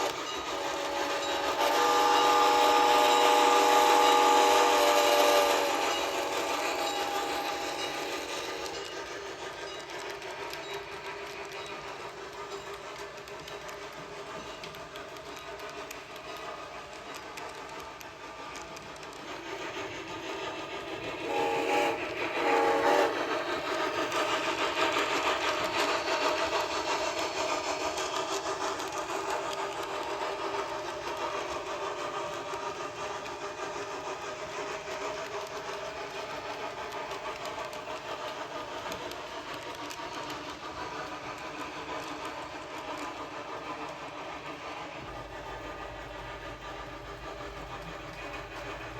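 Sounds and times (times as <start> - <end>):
model locomotive running: 0.0 - 48.9.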